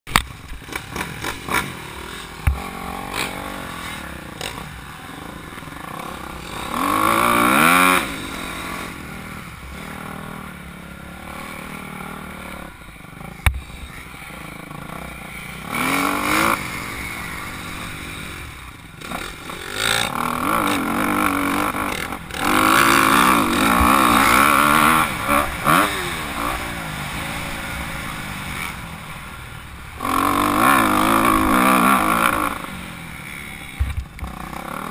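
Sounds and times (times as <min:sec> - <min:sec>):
motocross bike revving: 0:00.1 - 0:34.9.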